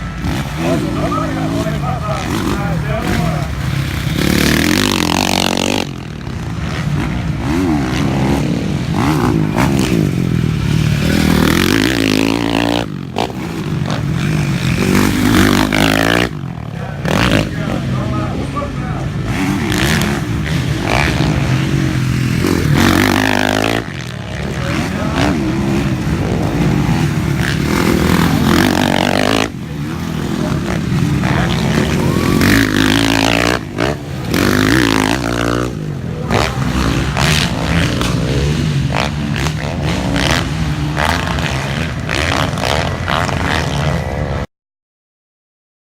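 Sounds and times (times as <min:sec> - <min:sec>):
dirt bike engines revving: 0:00.0 - 0:44.5.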